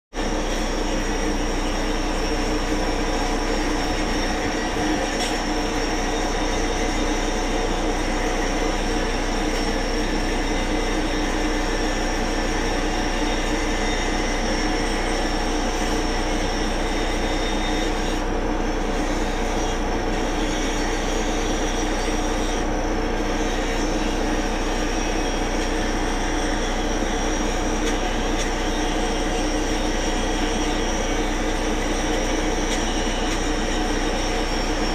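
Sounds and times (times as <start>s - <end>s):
machine droning: 0.1s - 34.9s.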